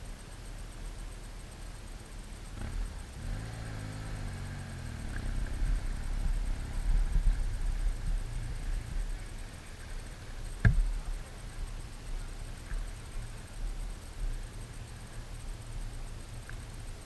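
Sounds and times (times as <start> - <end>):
motorcycle engine rumble: 0.0 - 17.0
pitched engine drone: 0.0 - 17.0.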